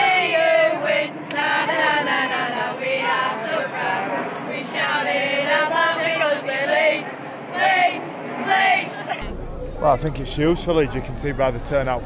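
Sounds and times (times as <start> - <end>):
crowd chanting and singing: 0.0 - 12.0.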